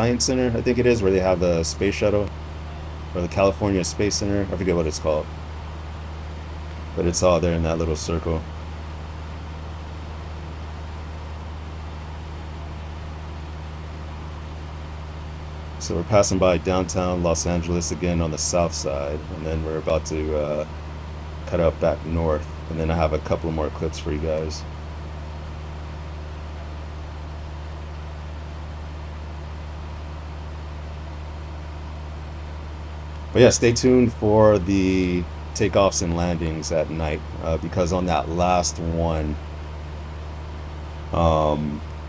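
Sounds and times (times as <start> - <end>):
airflow noise: 0.0 - 42.0
airplane engine drone in cabin: 0.0 - 42.0.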